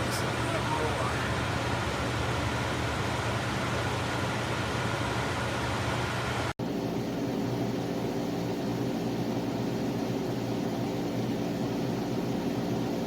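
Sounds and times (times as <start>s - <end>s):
air conditioner fan running: 0.0s - 13.0s.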